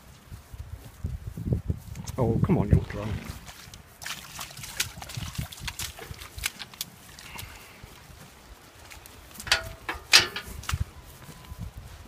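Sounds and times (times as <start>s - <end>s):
horses thudding and clicking: 0.0s - 11.5s.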